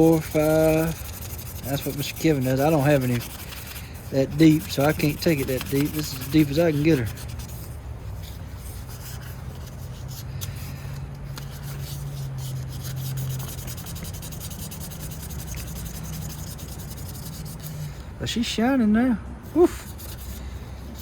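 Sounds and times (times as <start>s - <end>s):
sandpaper rasping on steel blade: 0.0s - 17.9s, 19.8s - 21.0s.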